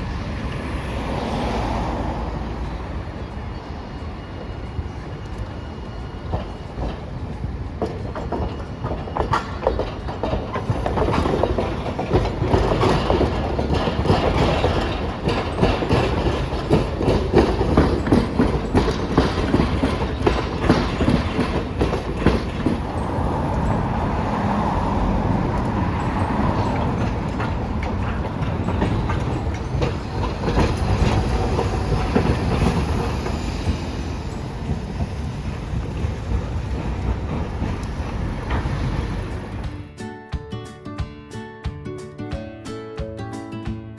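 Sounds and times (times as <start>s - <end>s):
streetcar wheels clacking on rails: 0.0s - 43.9s.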